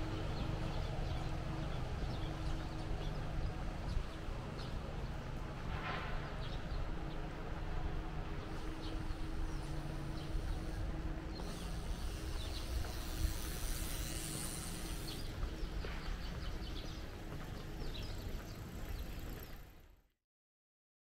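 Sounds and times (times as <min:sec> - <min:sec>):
low street rumble: 0:00.0 - 0:20.1.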